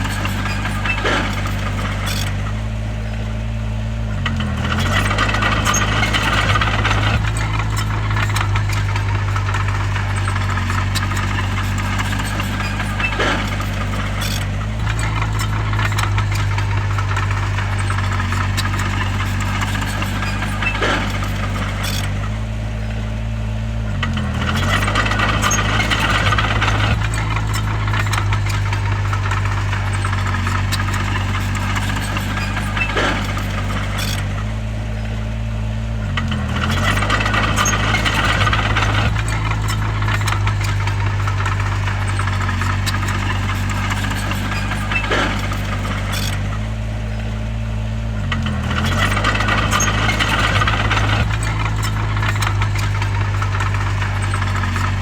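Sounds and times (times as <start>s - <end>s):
sharp metallic clanks: 0.0s - 3.2s, 4.3s - 23.2s, 24.0s - 35.2s, 36.1s - 47.6s, 48.3s - 55.0s
higher rattling: 0.0s - 3.5s, 4.6s - 23.4s, 24.0s - 55.0s
bulldozer diesel engine running: 0.0s - 55.0s.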